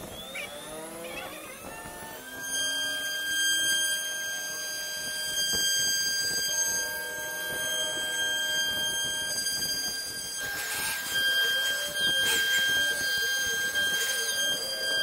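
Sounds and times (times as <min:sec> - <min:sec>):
bit cutting wood: 0:00.0 - 0:15.0
router spindle high-pitched whine: 0:00.0 - 0:15.0.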